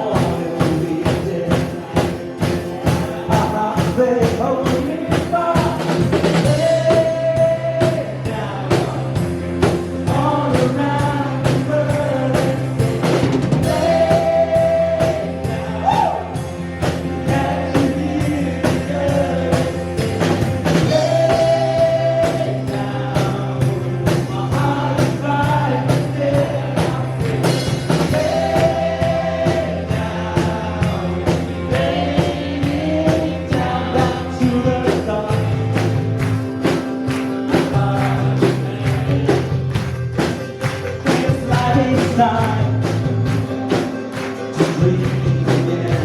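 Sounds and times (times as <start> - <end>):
voices singing: 0.0 - 46.0
worship band playing gospel song: 0.0 - 46.0.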